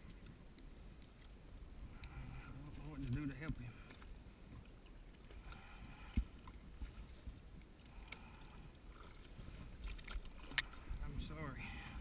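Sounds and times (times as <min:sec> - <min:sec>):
faint ticks: 0:00.0 - 0:07.0, 0:07.6 - 0:10.8
water lapping at boat hull: 0:00.0 - 0:12.0.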